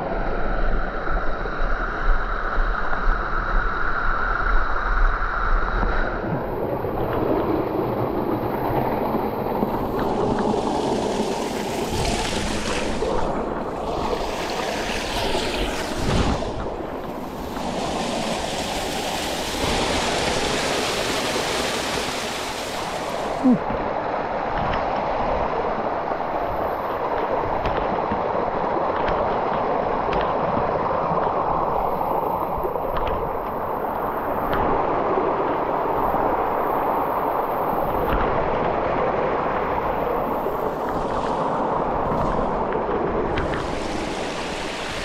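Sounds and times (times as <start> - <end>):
stream rushing over rocks: 6.0 - 45.0.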